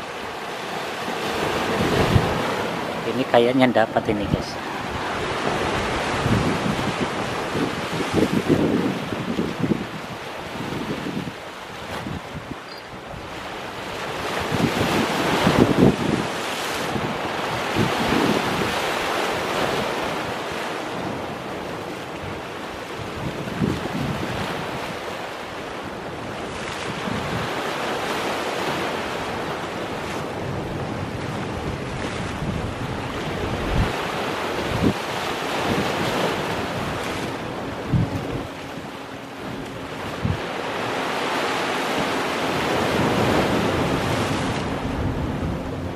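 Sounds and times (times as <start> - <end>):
sea waves breaking on boulders: 0.0 - 45.9
wind buffeting microphone: 0.8 - 3.2, 4.0 - 45.9.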